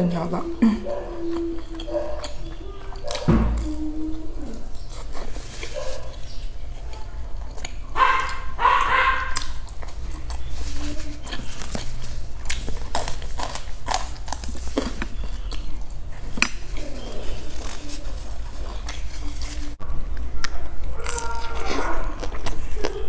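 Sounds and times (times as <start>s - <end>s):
chewing crisp flatbread: 0.0s - 23.0s.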